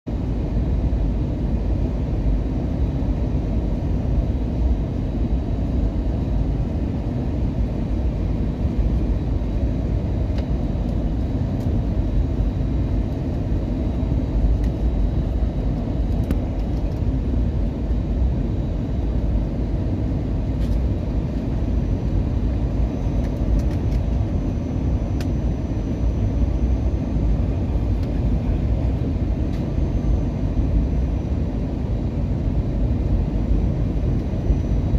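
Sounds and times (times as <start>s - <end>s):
airplane cabin engine rumble: 0.1s - 34.9s.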